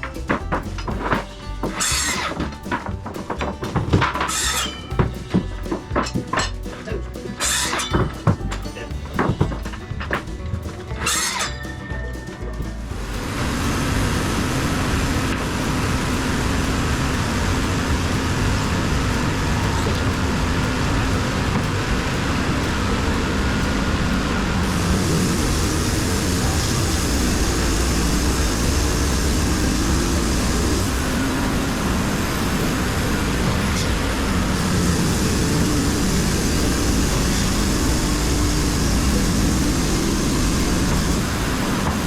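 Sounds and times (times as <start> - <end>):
band sawmill blade cutting log: 0.0 - 11.8, 12.6 - 42.0
bright hiss: 0.0 - 42.0.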